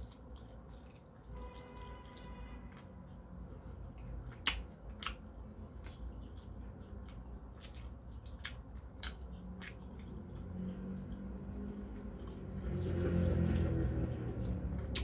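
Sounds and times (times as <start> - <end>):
soft squishing of flesh: 0.0 - 15.0.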